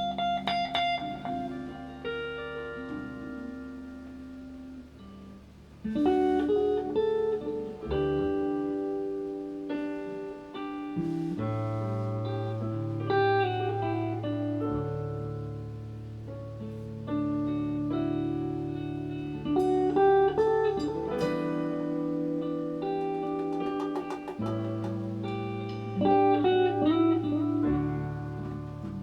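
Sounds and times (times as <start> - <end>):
guitar chords: 0.0 - 29.0.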